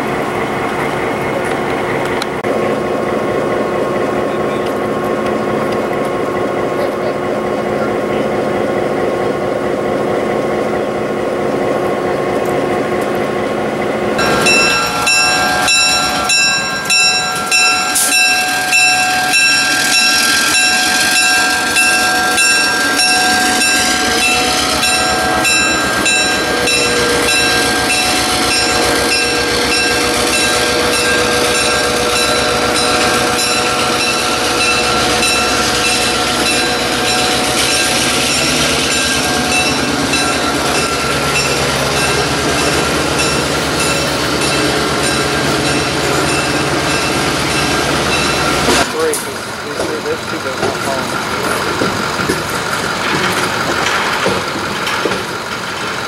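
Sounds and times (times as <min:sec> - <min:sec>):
train wheels clicking over rail joints: 0:00.0 - 0:07.2, 0:08.8 - 0:56.0
diesel locomotive passing: 0:00.0 - 0:56.0.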